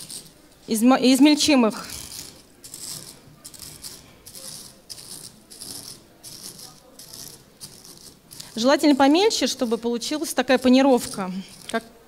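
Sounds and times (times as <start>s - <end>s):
corn flakes crunching in bowl: 1.8s - 11.7s.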